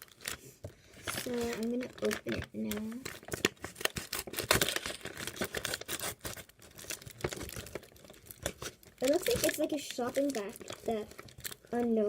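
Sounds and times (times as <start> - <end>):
packaging tearing and crinkling: 0.0 - 12.0.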